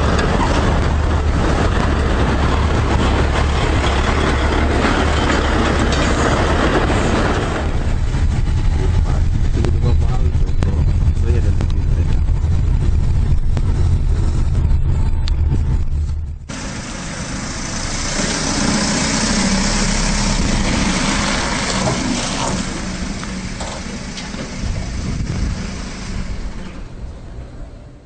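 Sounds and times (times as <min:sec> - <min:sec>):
truck engine rumbling: 0:00.0 - 0:28.0.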